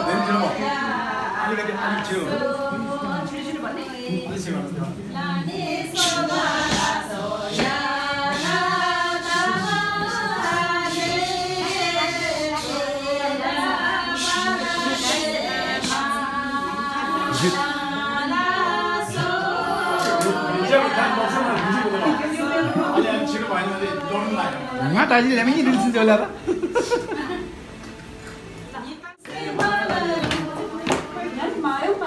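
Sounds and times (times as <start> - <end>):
group singing without instruments: 0.0 - 26.0, 29.1 - 32.0.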